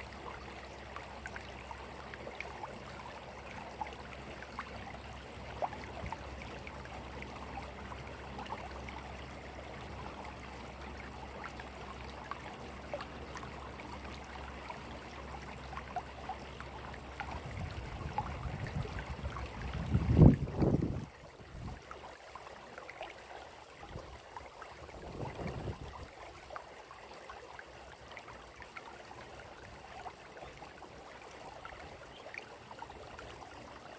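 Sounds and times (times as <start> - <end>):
water trickling and dripping: 0.0 - 33.9.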